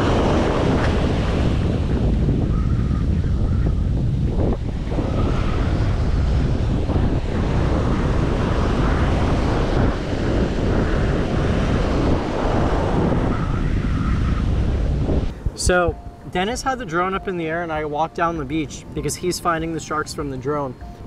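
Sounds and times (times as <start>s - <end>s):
ocean surf washing: 0.0s - 21.0s
wind buffeting microphone: 0.0s - 21.0s.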